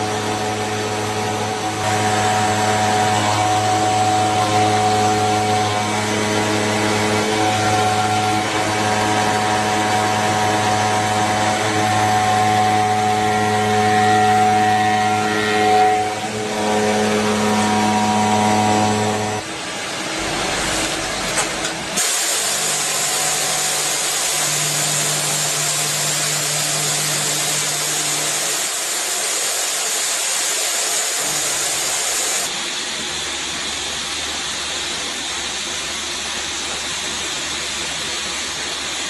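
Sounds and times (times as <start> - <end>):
metalworking machine grinding: 0.0 - 35.6.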